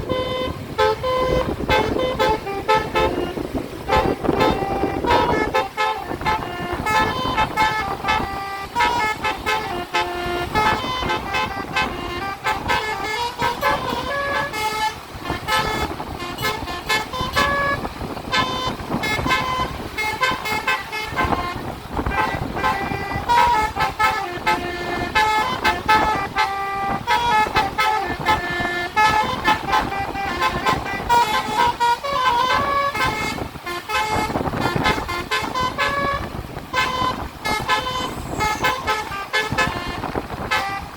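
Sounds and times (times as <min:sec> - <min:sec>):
bus and road noise: 0:00.0 - 0:40.9
musical bus horn playing tune: 0:00.0 - 0:40.9.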